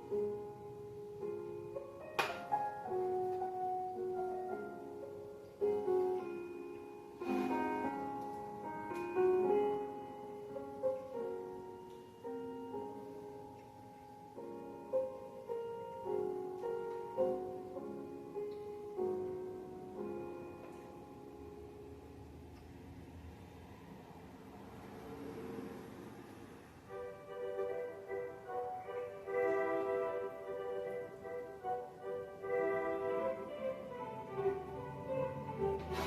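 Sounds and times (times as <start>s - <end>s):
slow piano melody with chords: 0.0s - 36.0s.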